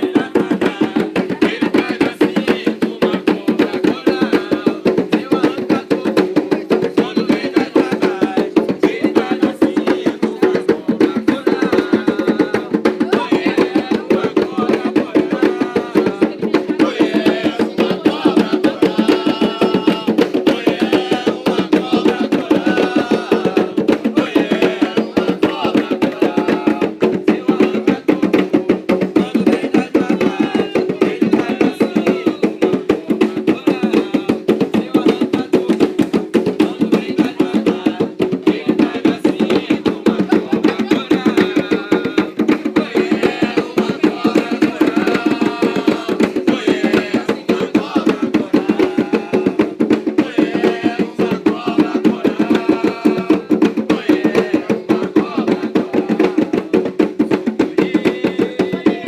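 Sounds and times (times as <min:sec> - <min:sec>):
hand drums beaten fast: 0:00.0 - 0:59.0
voices singing: 0:00.0 - 0:59.0.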